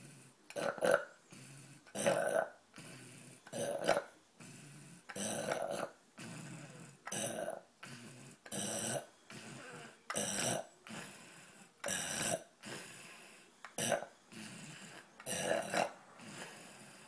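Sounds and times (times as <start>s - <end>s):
man snoring: 0.0s - 17.0s
quiet breaths: 0.0s - 17.0s.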